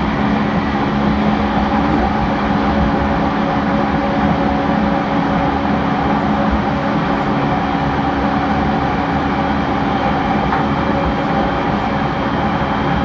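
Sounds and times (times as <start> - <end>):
electric train hum and whir: 0.0 - 13.0.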